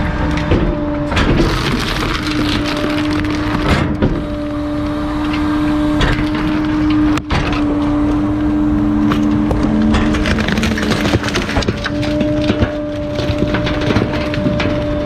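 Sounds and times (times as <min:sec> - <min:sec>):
hydraulic compactor humming: 0:00.0 - 0:15.0
items cracking and crunching: 0:00.1 - 0:15.0.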